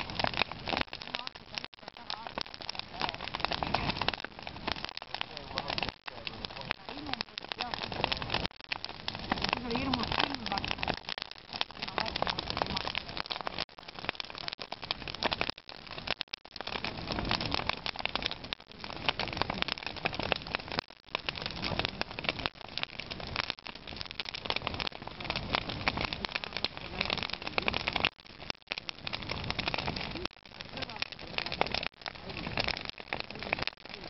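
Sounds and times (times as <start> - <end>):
bonfire crackling and popping: 0.0 - 34.0.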